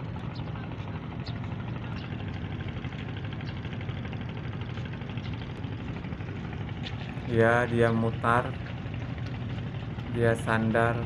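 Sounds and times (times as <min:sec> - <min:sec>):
ferry diesel engines droning: 0:00.0 - 0:11.0.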